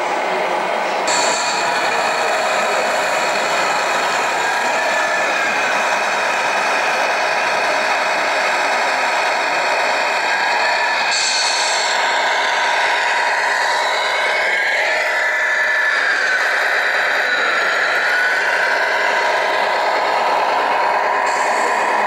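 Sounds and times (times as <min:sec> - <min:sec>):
motor whine: 0:01.1 - 0:22.0
toy truck engine running: 0:01.1 - 0:22.0.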